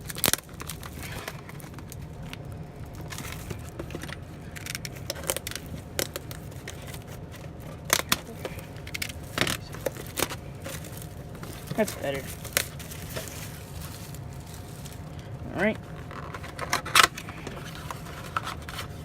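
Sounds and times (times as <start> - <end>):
packs crinkling: 0.0 - 19.0.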